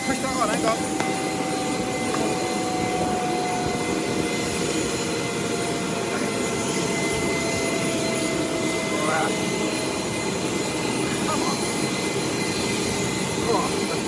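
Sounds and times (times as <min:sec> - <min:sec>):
gas turbine whine: 0:00.0 - 0:14.0.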